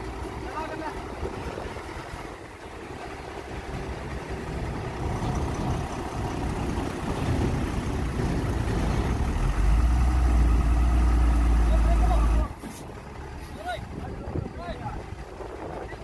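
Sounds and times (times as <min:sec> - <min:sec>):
deep steady rumble: 0:00.0 - 0:16.0
diesel engine running: 0:00.0 - 0:16.0.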